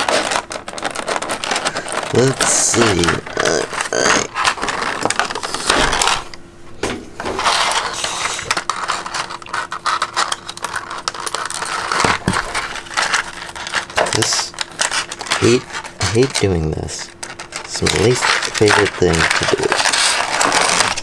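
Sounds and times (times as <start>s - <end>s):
plastic bags crinkling: 0.0s - 6.4s, 7.4s - 21.0s.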